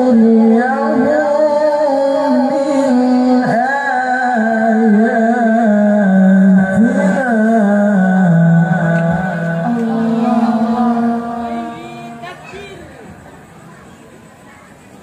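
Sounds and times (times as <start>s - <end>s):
man reciting melodically over loudspeakers: 0.0s - 12.8s.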